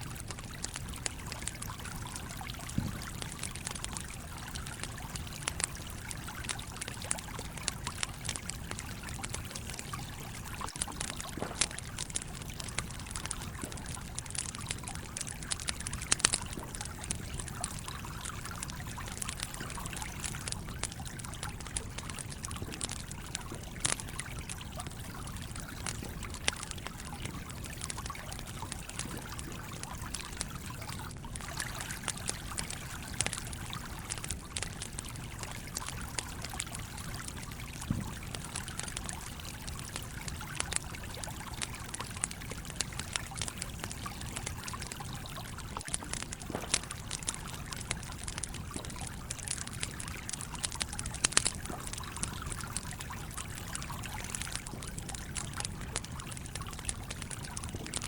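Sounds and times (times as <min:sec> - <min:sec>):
campfire crackling and popping: 0:00.0 - 0:58.0
stream water flowing: 0:00.0 - 0:58.0.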